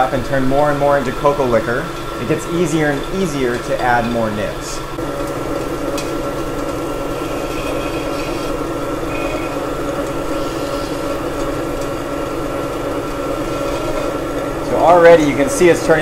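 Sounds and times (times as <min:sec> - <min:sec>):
grinder motor drone: 0:00.0 - 0:16.0.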